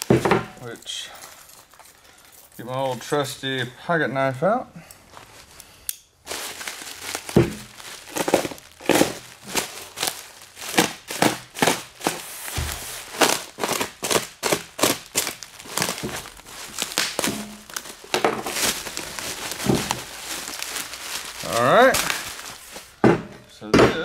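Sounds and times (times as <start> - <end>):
bubble wrap crinkling: 0.0 - 3.3, 4.9 - 23.0.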